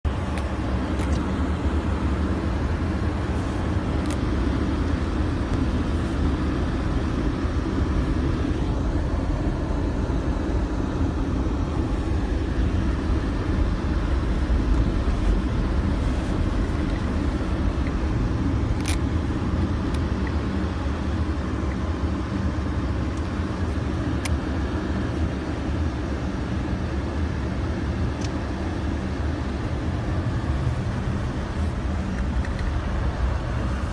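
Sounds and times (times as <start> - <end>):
car engine and tyres rumbling: 0.0 - 33.9.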